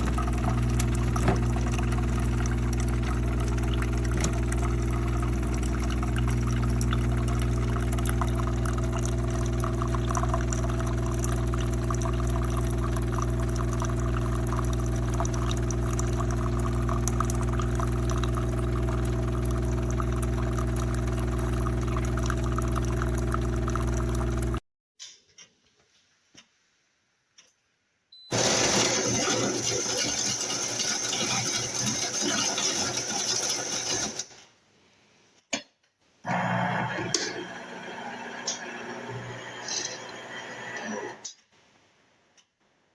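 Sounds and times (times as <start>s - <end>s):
coffee maker motor hum: 0.0s - 24.6s, 28.3s - 34.2s, 36.3s - 41.3s.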